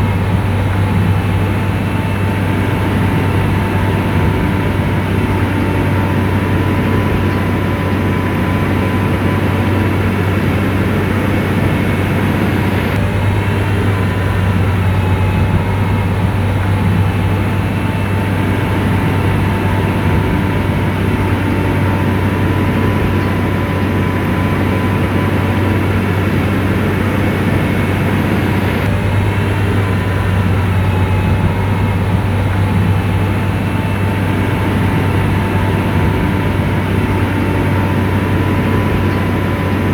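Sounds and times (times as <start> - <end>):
bulldozer diesel engine humming: 0.0 - 39.9
faint steady whine: 0.0 - 39.9.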